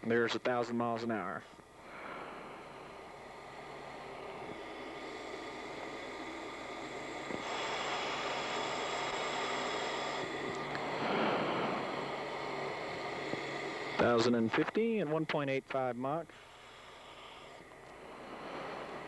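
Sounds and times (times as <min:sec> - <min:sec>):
jet cockpit hiss: 0:00.0 - 0:19.0
steady hums: 0:00.0 - 0:19.0.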